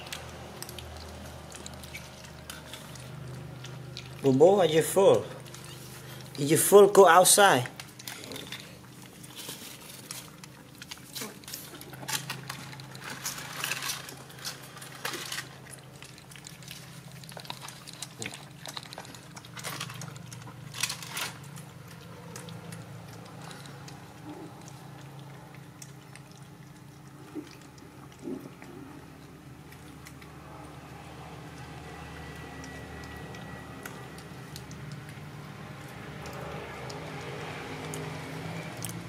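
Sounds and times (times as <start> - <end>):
puppies lapping milk: 0.0 - 39.0.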